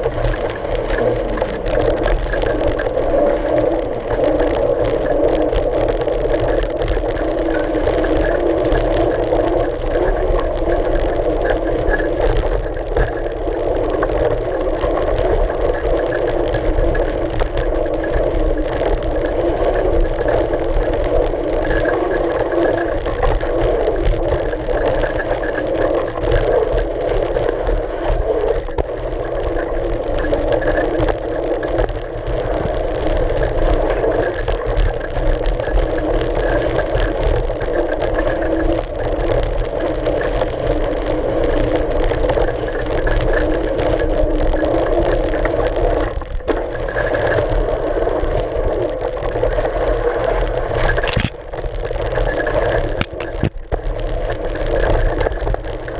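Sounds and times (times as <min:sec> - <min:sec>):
bike tyre rolling on dirt: 0:00.0 - 0:55.9
wind: 0:00.0 - 0:55.9.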